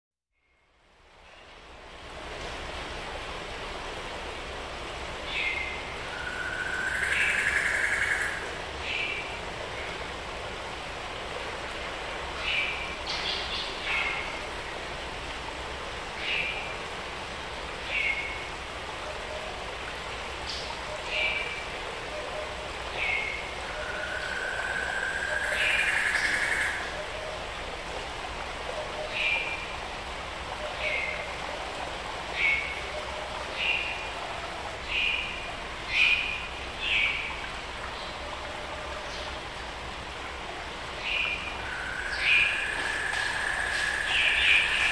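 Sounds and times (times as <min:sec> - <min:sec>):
hiss of forest background: 0:00.3 - 0:44.9.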